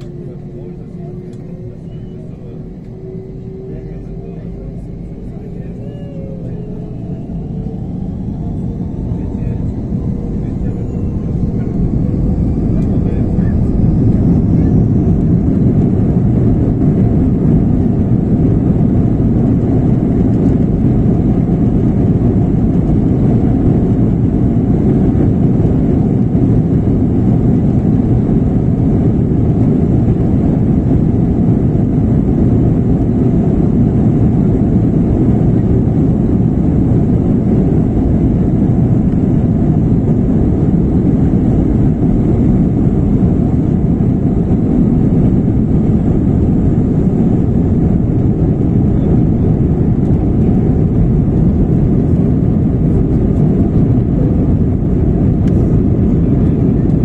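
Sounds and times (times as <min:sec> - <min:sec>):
jet engines at takeoff thrust: 0:00.0 - 0:57.0
runway rumble: 0:00.0 - 0:57.0.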